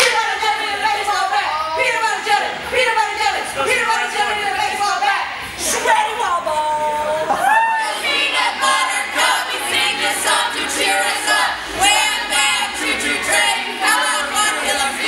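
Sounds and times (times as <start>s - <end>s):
group of people singing: 0.0s - 5.9s, 7.0s - 15.0s.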